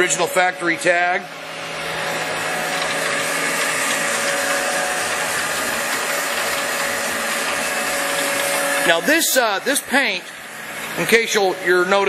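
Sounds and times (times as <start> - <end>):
lathe whir and air rush: 0.0 - 12.0.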